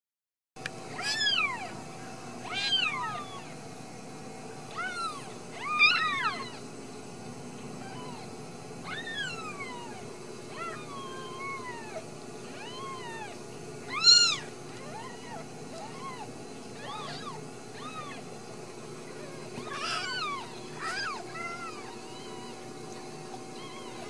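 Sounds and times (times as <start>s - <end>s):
kittens mewing: 0.9s - 1.8s, 2.4s - 3.6s, 4.6s - 6.7s, 7.8s - 24.0s.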